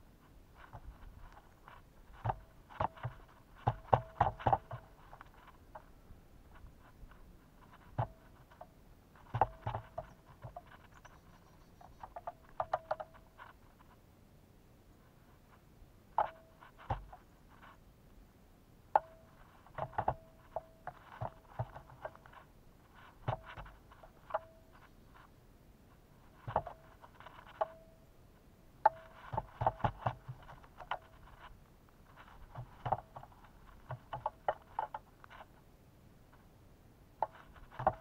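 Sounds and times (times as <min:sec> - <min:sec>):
birds pecking at feeder: 0:00.5 - 0:14.0, 0:15.4 - 0:17.8, 0:19.0 - 0:28.0, 0:28.8 - 0:35.6, 0:37.1 - 0:38.0.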